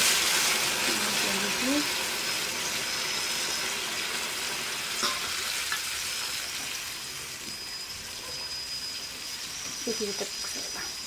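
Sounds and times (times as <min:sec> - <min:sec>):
water sizzling in hot pan: 0:00.0 - 0:11.0.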